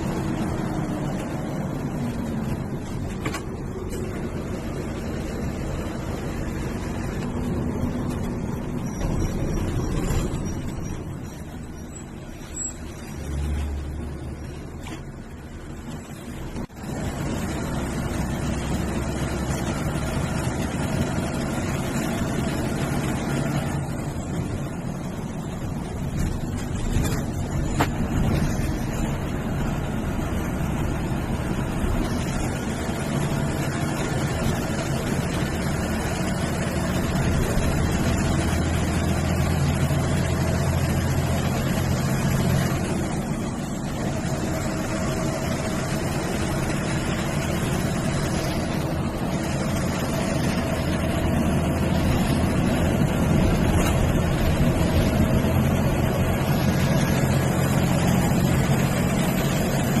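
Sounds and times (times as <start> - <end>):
bus diesel engine running: 0.0 - 60.0
road noise: 0.0 - 60.0.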